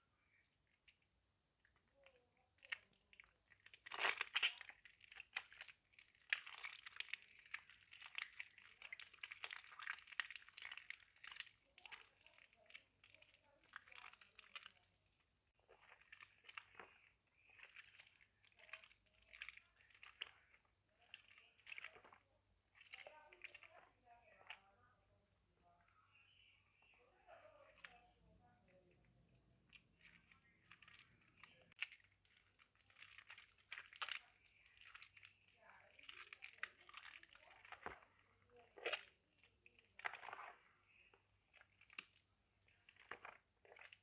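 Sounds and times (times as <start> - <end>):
hands squishing wet soap: 0.0 - 44.0.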